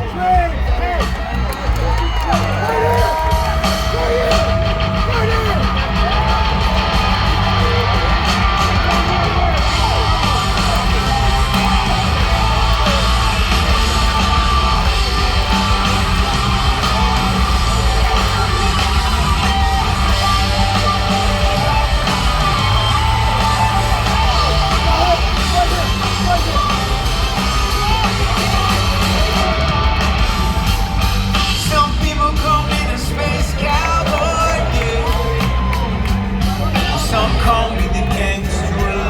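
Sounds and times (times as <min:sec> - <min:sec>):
drum beat: 0:00.0 - 0:39.0
heavy bass: 0:00.0 - 0:39.0
electric guitar: 0:01.3 - 0:39.0.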